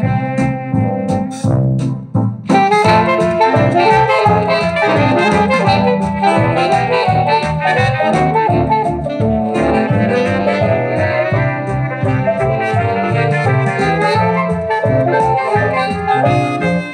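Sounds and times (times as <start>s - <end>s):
lively jazzy instrumental music: 0.0s - 16.9s.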